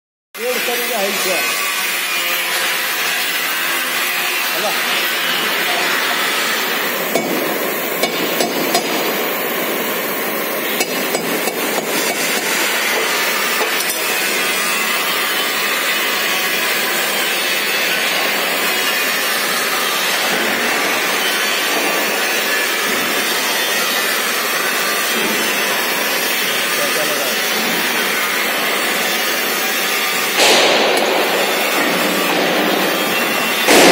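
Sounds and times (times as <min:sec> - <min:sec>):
welding torch flame hissing: 0:00.4 - 0:33.9.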